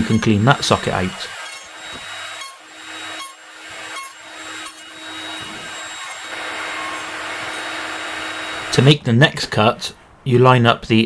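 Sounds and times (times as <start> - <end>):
table saw cutting: 0.0 - 9.0.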